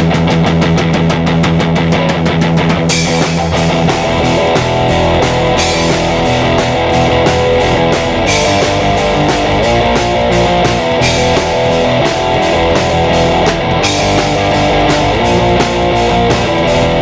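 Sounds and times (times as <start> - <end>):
bass guitar: 0.0 - 17.0
drum kit with cymbals: 0.0 - 17.0
electric guitar: 0.0 - 17.0.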